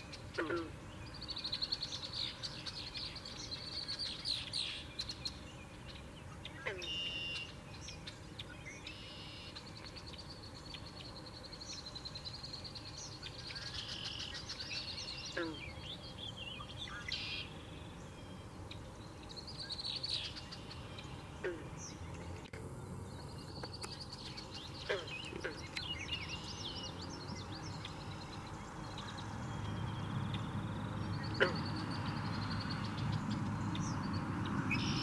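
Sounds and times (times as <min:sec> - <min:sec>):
small birds singing and calling: 0:00.0 - 0:35.0.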